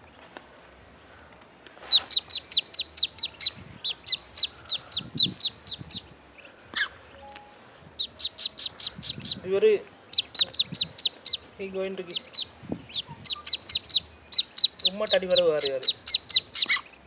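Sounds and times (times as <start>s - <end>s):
duckling peeping: 1.9s - 17.0s.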